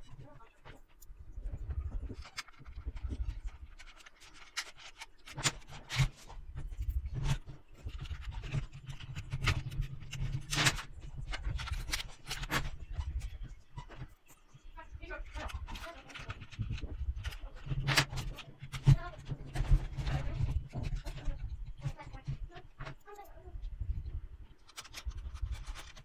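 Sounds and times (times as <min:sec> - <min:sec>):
metal toy parts clicking and scraping: 0:00.0 - 0:14.4, 0:15.1 - 0:23.5, 0:24.4 - 0:26.0.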